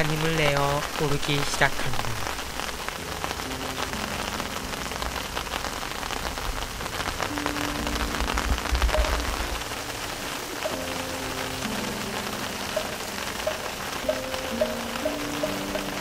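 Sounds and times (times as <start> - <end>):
rain on stones and leaves: 0.0 - 16.0.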